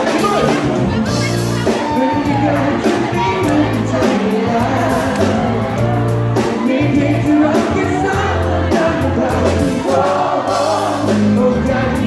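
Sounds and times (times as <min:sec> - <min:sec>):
crowd cheering and singing: 0:00.0 - 0:12.0
live pop band: 0:00.0 - 0:12.0
man singing lead: 0:00.0 - 0:12.0.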